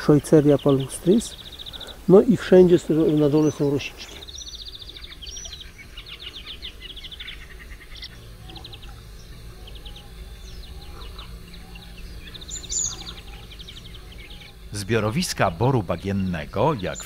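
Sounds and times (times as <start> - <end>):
songbirds trilling: 0.0 - 17.0.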